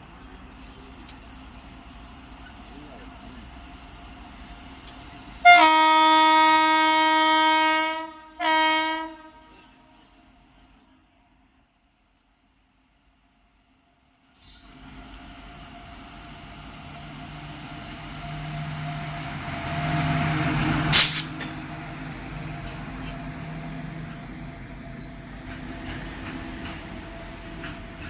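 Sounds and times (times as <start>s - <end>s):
goods train rumbling past: 0.0s - 11.2s, 14.5s - 28.0s.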